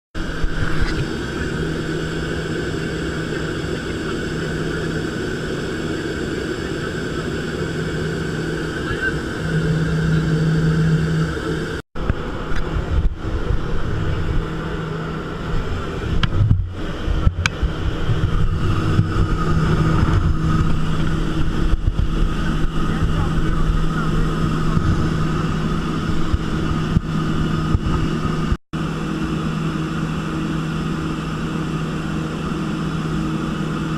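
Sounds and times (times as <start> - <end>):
propeller aircraft engine drone: 0.2 - 33.9.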